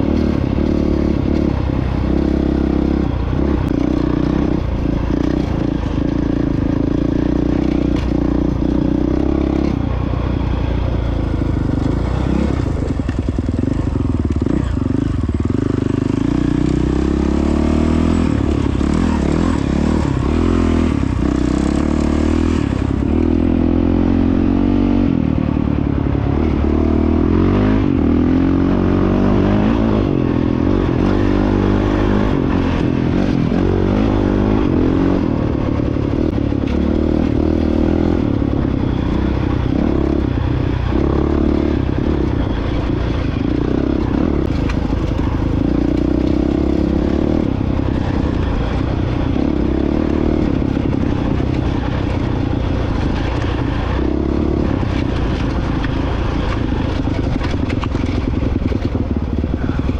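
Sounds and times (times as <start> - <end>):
dirt bike engine revving: 0.0 - 10.5, 11.1 - 59.9.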